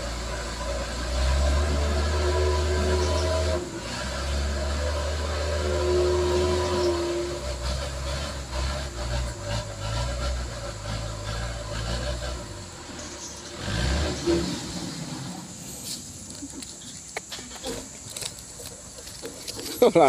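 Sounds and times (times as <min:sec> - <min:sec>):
diesel truck engine under load: 0:00.0 - 0:20.0.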